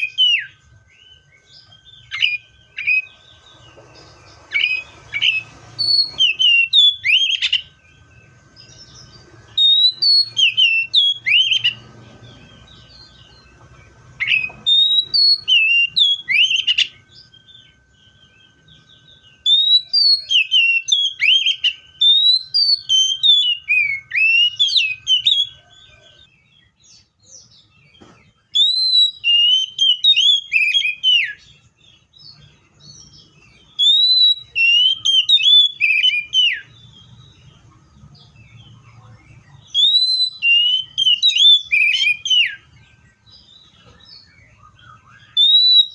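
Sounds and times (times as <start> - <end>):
bird singing whistled phrases: 0.0 - 37.6, 38.2 - 45.9
faint steady high tone: 0.0 - 45.9.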